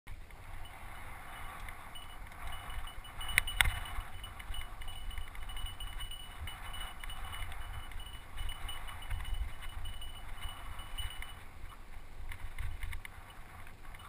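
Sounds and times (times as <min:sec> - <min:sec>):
low microphone rumble: 0:00.2 - 0:12.8
bike rattling and clinking: 0:00.5 - 0:14.0.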